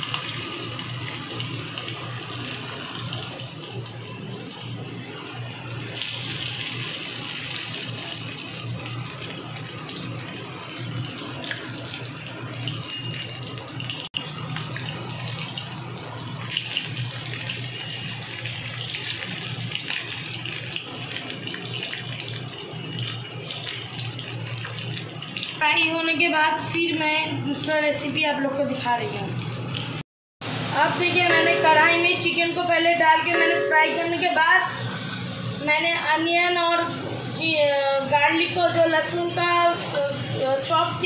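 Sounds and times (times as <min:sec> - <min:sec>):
deep-frying sizzle: 0:00.0 - 0:41.0.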